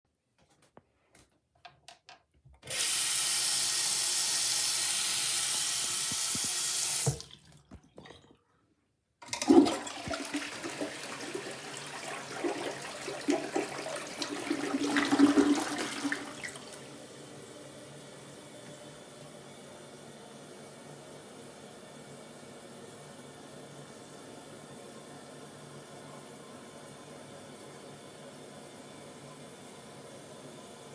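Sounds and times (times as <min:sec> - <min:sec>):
toilet flush water rushing: 0:02.7 - 0:08.3, 0:09.2 - 0:30.9.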